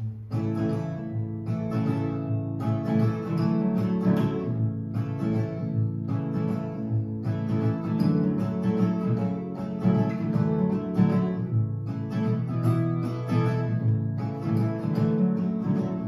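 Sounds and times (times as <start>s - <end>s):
acoustic guitars playing folk: 0.0s - 16.0s.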